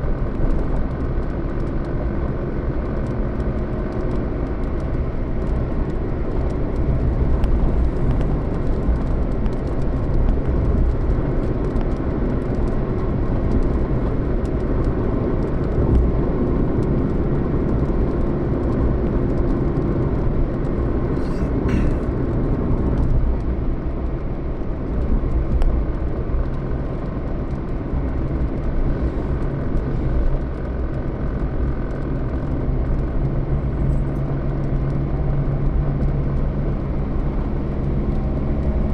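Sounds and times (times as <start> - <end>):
road noise: 0.0 - 38.9
vehicle engine drone: 0.0 - 38.9.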